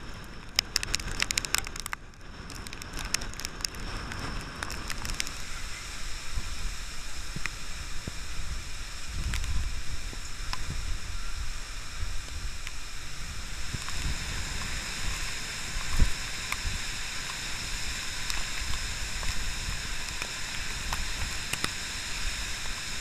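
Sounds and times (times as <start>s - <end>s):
heavy rain pouring: 0.0s - 23.0s
wind rumbling on microphone: 0.0s - 23.0s
raindrops ticking close by: 0.1s - 23.0s.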